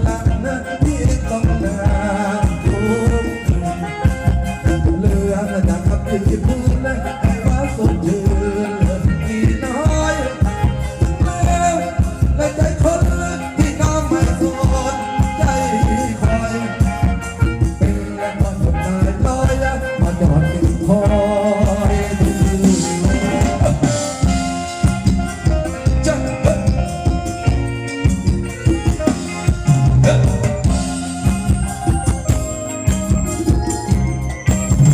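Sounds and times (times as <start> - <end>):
person singing: 0.0 - 24.6, 25.6 - 27.6, 28.9 - 32.4
drum kit beat: 0.0 - 34.9
live band playing dance music: 0.0 - 34.9.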